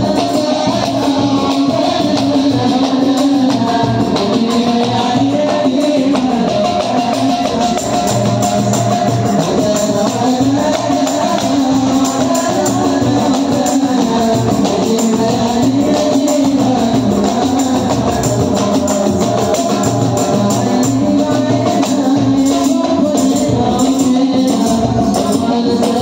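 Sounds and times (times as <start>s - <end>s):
jingling percussion: 0.0s - 26.0s
person singing: 0.0s - 26.0s
rapid hand drumming on goblet drum: 0.0s - 26.0s.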